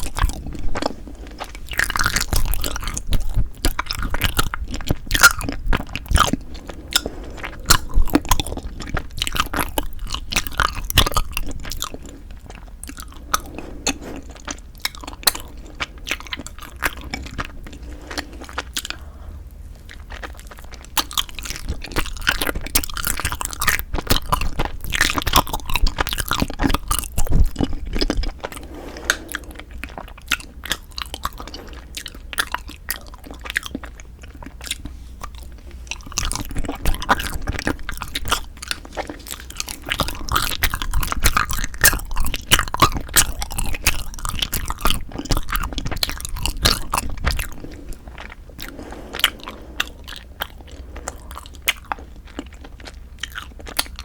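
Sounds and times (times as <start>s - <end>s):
chewing and biting food: 0.0s - 54.0s.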